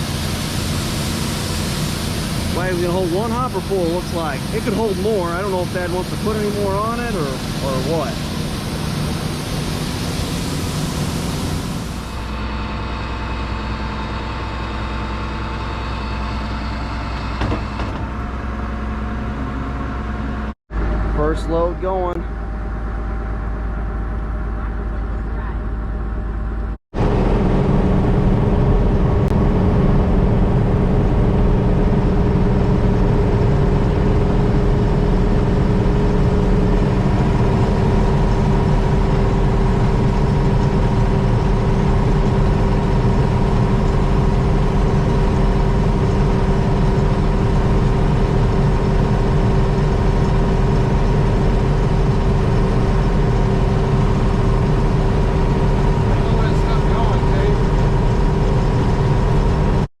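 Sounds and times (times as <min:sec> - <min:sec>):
heavy farm vehicle engine running: 0:00.0 - 0:59.9.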